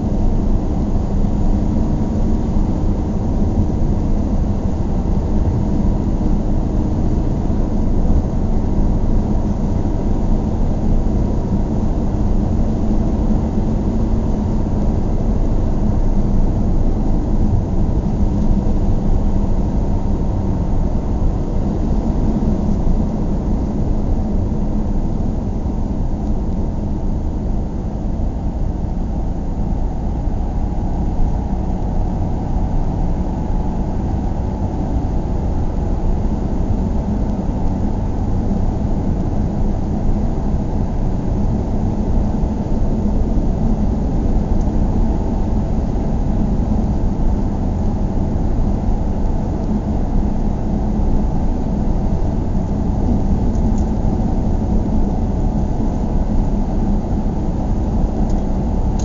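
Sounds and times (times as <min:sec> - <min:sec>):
moving vehicle rumble: 0:00.0 - 0:59.0.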